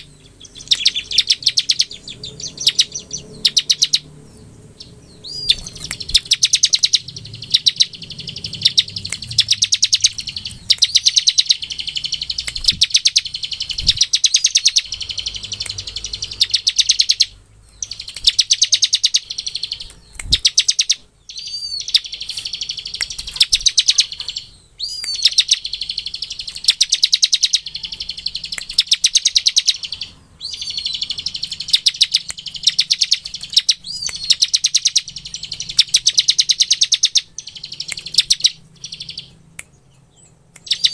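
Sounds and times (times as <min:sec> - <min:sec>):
bird rattling trill: 0:05.2 - 0:39.3.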